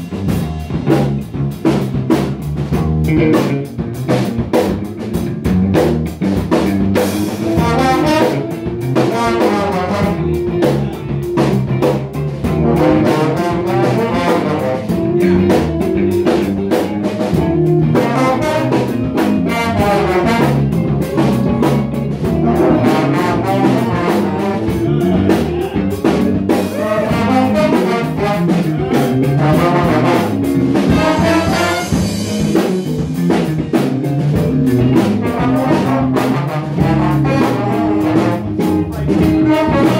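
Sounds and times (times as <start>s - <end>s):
drum kit beat: 0.0s - 39.9s
jazz big band horns: 0.0s - 39.9s.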